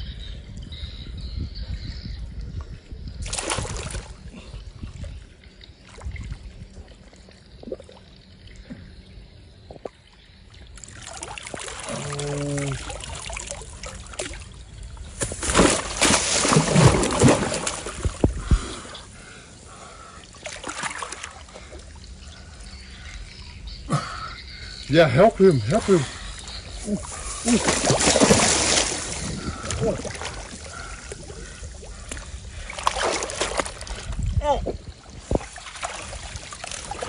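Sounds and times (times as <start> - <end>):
water splashing and sloshing: 2.4 - 24.7, 25.4 - 37.0.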